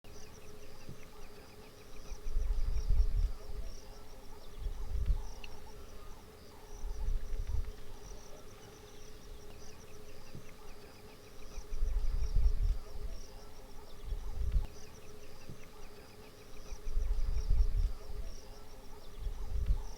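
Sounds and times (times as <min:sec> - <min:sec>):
insects chirping in trills: 0:00.1 - 0:19.9.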